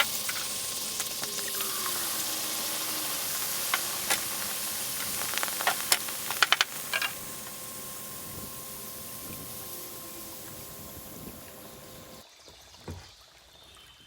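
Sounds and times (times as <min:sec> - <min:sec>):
hot metal sizzling: 0:00.0 - 0:12.2
sharp crackles and pops: 0:00.0 - 0:12.2
steam hissing: 0:00.0 - 0:12.2.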